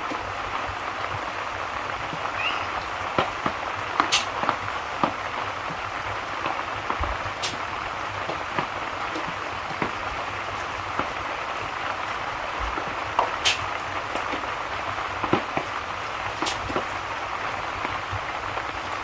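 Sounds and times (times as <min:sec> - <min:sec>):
fire crackling: 0:00.0 - 0:19.0
steady rain falling: 0:00.0 - 0:19.0.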